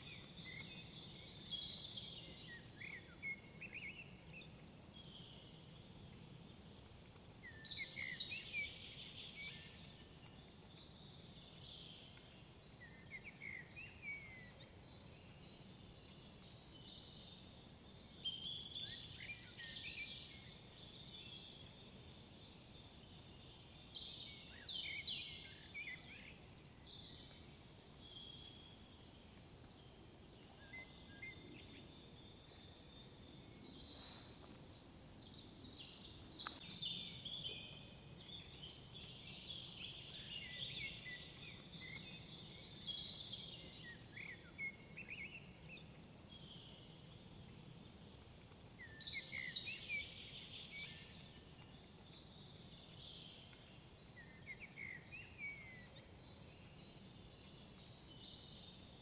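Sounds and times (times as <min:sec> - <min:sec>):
faint background hiss: 0:00.0 - 0:59.0
songbirds singing with trills: 0:00.0 - 0:59.0.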